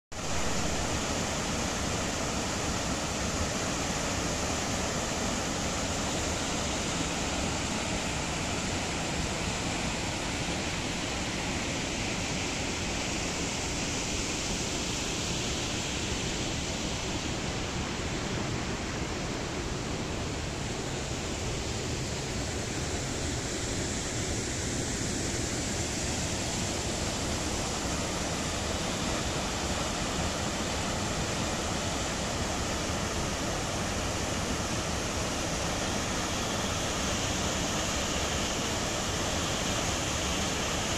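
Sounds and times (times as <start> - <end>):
waterfall and river rapids: 0.2 - 40.9.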